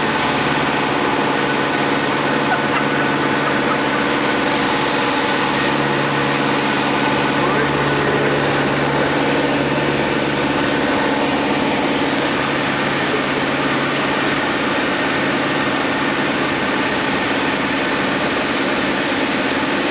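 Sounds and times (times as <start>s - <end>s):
aircraft engine and propeller drone: 0.0s - 19.9s.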